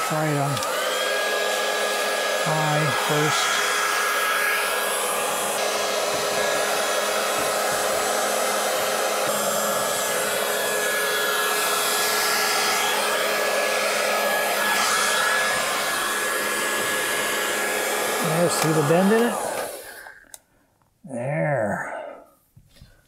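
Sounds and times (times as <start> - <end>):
heat gun blowing air: 0.0 - 20.4.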